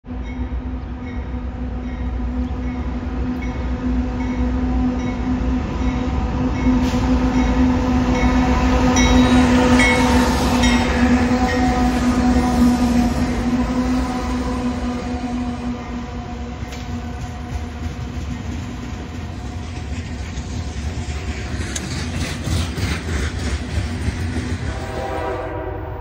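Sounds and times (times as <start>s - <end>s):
diesel locomotive drone: 0.0s - 26.0s
low train rumble: 0.0s - 26.0s.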